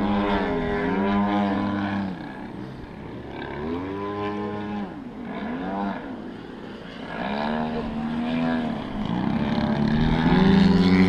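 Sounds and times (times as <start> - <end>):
model plane engines overhead: 0.0 - 11.0.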